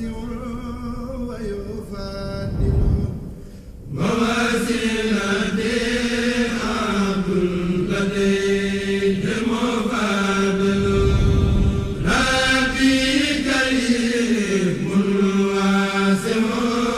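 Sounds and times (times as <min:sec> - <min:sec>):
man chanting: 0:00.0 - 0:16.9.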